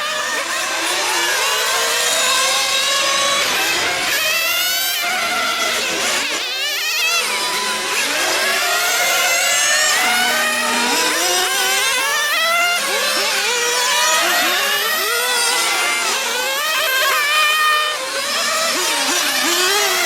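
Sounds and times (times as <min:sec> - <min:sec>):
rc car engines screaming: 0:00.0 - 0:20.0
rc car passing close: 0:00.0 - 0:20.0.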